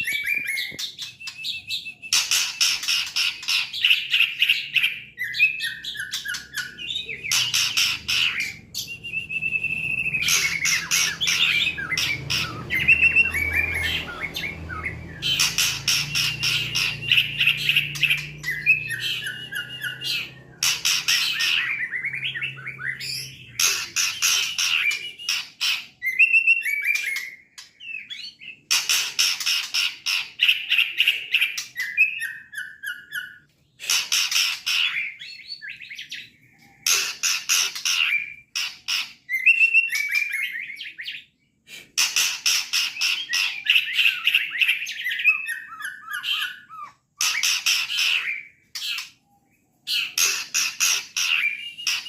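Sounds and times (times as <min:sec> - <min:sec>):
bird singing: 0:00.0 - 0:41.6, 0:42.2 - 0:52.0.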